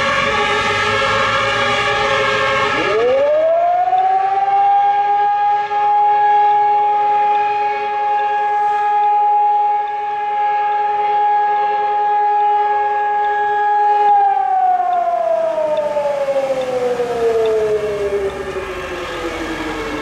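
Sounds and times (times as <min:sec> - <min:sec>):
alarm siren: 0:00.0 - 0:20.0.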